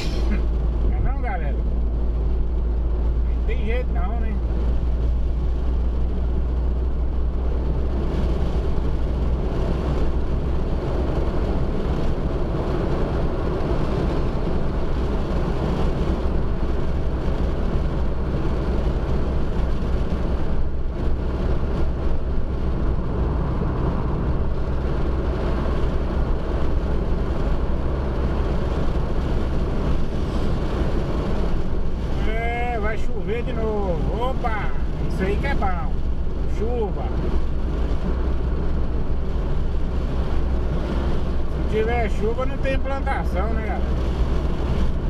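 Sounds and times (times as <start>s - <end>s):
car engine drone: 0.0s - 45.0s.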